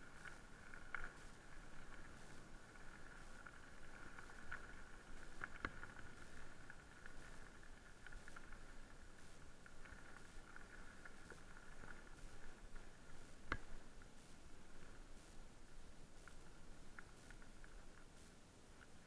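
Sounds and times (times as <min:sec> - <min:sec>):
tyres crunching on gravel: 0:00.0 - 0:18.2
small clicks and rattles: 0:00.0 - 0:19.0
steady high hum: 0:00.0 - 0:19.0.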